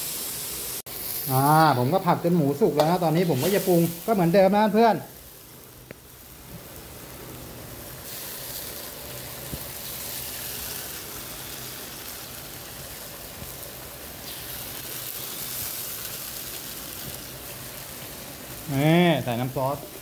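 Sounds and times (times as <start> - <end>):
pork sizzling in a wok: 0.0 - 20.0.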